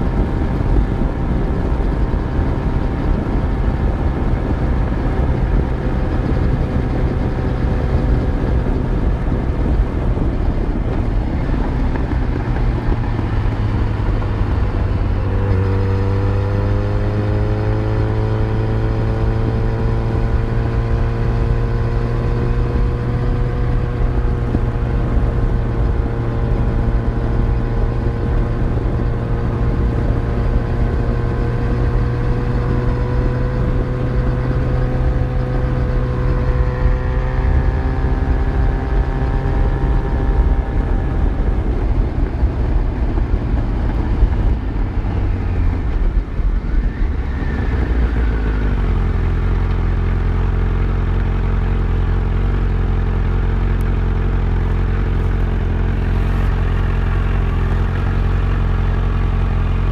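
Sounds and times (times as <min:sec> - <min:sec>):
steady rushing noise: 0:00.0 - 0:51.8
motorcycle engine running: 0:00.0 - 0:59.9.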